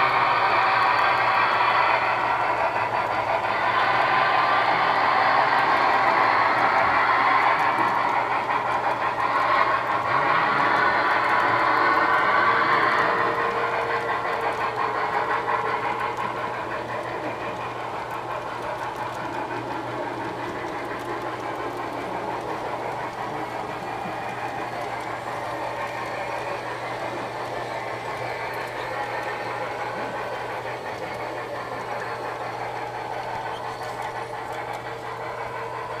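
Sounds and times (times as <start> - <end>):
model train cars rolling on track: 0.0 - 36.0.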